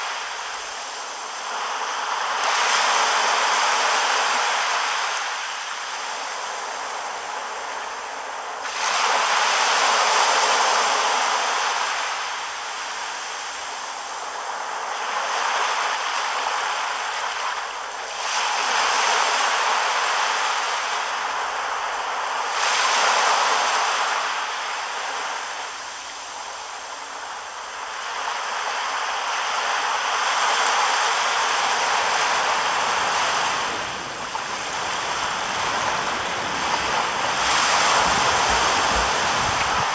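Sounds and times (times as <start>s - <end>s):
small waves washing on sand: 0.0s - 39.9s.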